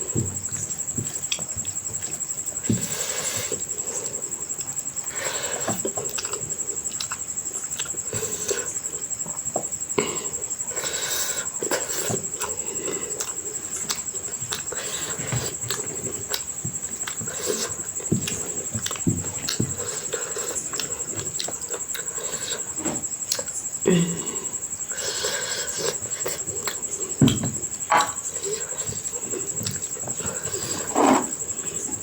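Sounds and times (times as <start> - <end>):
steady high-pitched whine: 0.0 - 32.0
chewing and wet mouth sounds: 0.4 - 23.8, 24.4 - 27.4.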